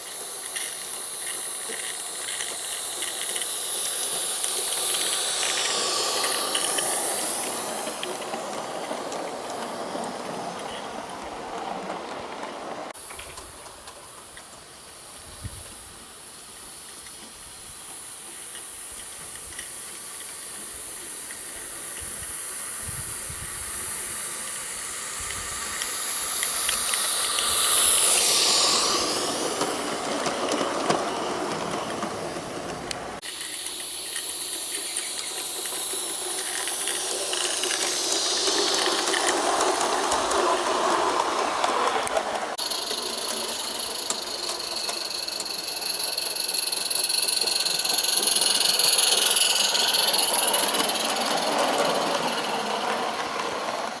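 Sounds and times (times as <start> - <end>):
model steam locomotive hissing: 0.0 - 54.0.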